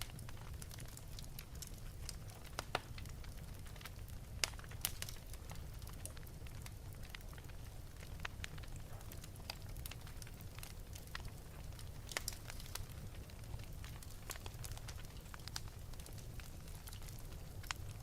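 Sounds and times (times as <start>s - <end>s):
fire crackling in fireplace: 0.0s - 18.0s.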